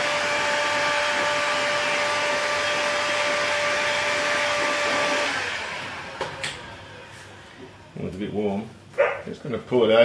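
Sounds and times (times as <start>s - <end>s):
heat gun fan whine: 0.0s - 9.0s.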